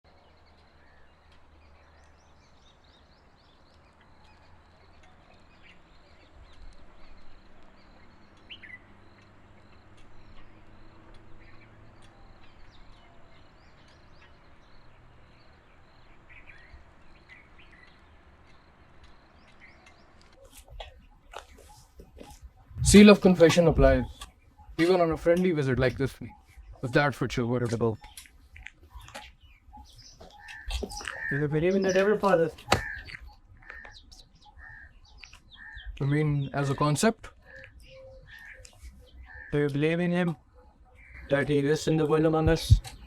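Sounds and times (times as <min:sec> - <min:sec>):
bird chirps: 0:00.1 - 0:43.0.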